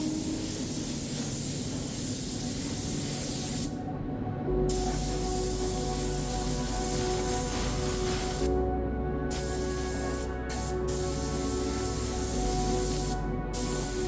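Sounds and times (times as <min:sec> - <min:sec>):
spray gun hissing: 0:00.0 - 0:03.8, 0:04.7 - 0:08.6, 0:09.3 - 0:14.0.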